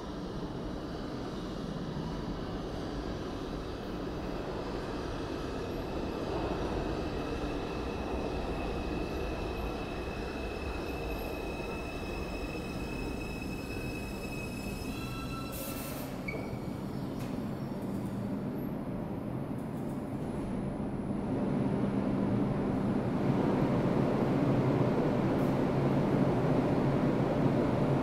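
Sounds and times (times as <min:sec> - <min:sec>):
subway train rumbling and whining: 0:00.0 - 0:28.0.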